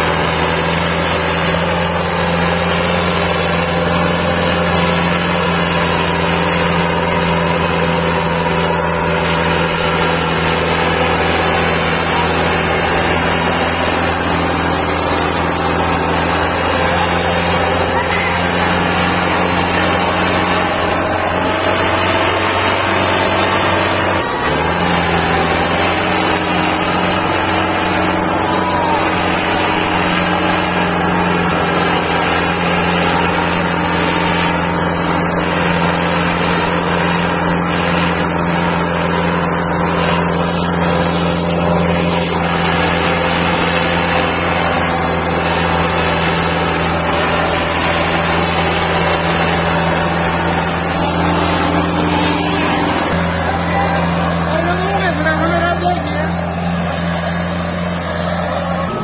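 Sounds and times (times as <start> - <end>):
tractor diesel engine running hard: 0.0 - 59.0.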